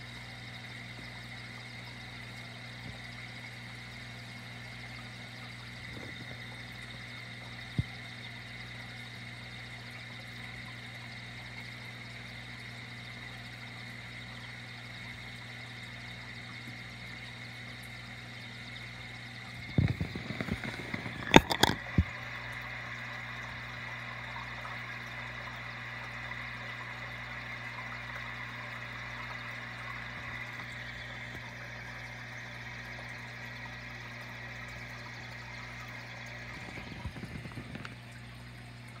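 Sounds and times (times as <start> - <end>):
aquarium air pump humming: 0.0 - 39.0.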